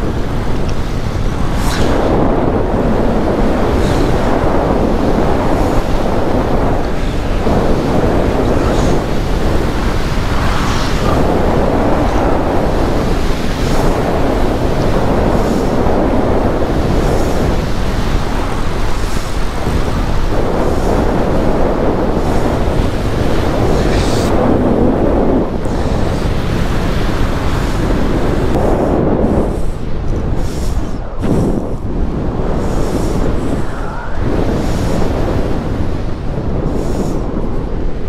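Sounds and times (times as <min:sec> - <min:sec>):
strong wind rushing over microphone: 0:00.0 - 0:38.0.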